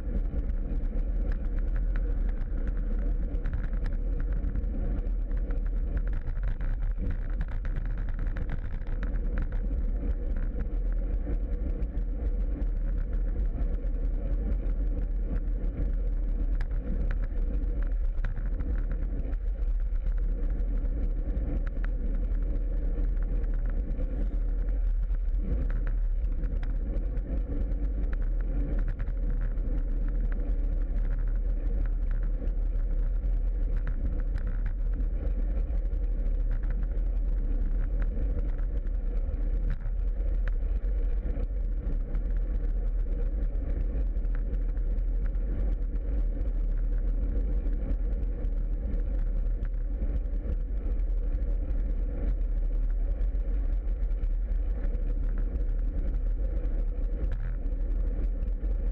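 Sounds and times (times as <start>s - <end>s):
bicycle road noise: 0.0s - 58.4s.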